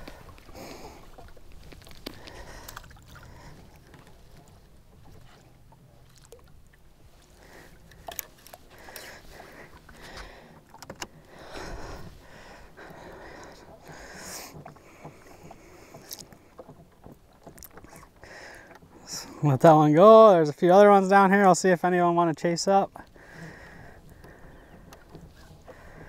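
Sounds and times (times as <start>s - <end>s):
water lapping at hull: 0.0s - 26.0s.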